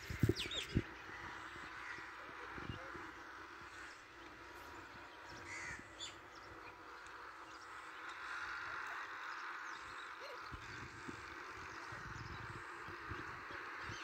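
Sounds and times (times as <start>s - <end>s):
faint bird calls: 0.0s - 14.0s.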